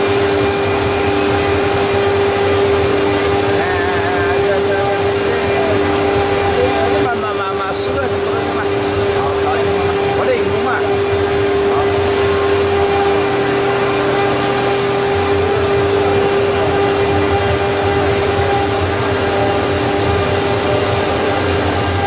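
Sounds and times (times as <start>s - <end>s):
engraving bit cutting stone: 0.0s - 22.0s
router spindle whine: 0.0s - 22.0s
water coolant spray: 0.0s - 22.0s.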